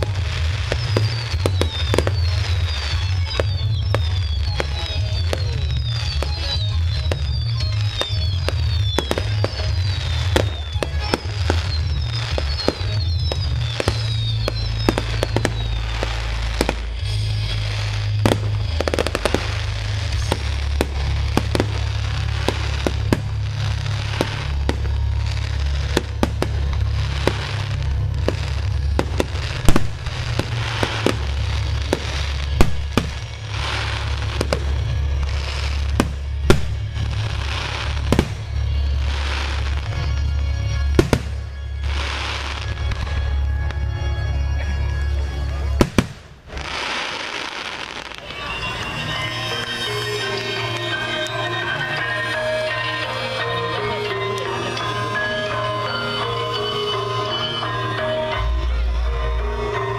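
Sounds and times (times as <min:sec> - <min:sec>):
fireworks cracking and booming: 0:00.0 - 0:59.9
music with deep bass: 0:00.0 - 0:59.9.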